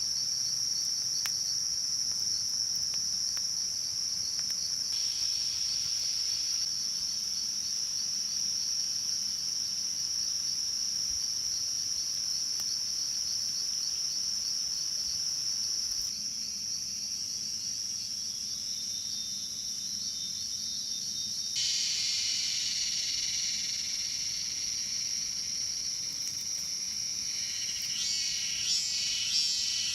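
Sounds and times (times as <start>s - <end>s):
insect chorus trilling: 0.0s - 29.9s.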